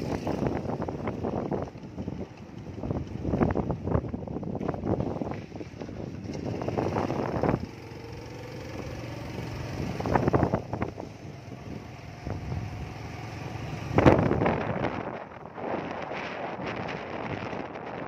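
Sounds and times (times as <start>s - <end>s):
vehicle engine running: 0.0s - 18.0s
wind buffeting microphone: 0.0s - 18.0s.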